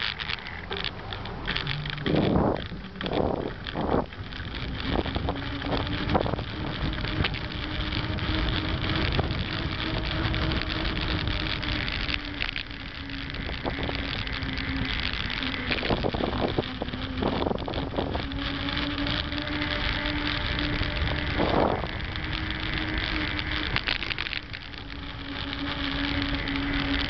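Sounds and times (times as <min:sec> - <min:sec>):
bike tyres whining on asphalt: 0:00.0 - 0:27.0
rattling clicks from bumps: 0:00.0 - 0:27.0
wind rushing on microphone: 0:00.0 - 0:27.0.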